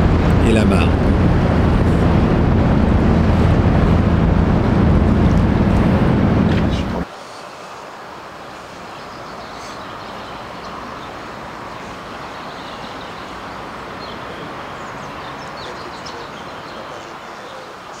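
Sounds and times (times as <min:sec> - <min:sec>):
even outdoor rush: 0:00.0 - 0:18.0.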